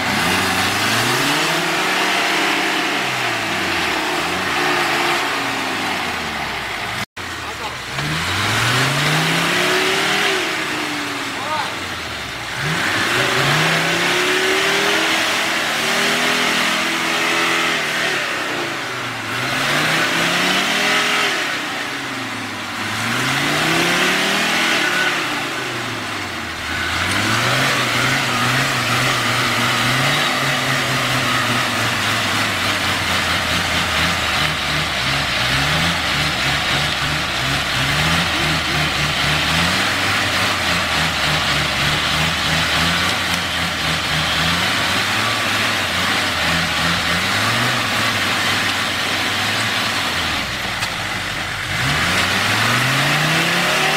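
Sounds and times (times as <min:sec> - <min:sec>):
off-road vehicle engine revving: 0:00.0 - 0:53.9
rushing driving noise: 0:00.0 - 0:53.9.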